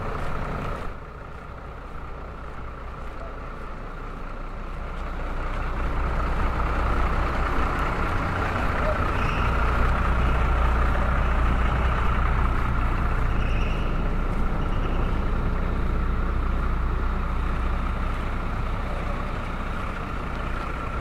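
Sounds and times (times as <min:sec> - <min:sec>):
vehicle engine low rumble: 0:00.0 - 0:21.0.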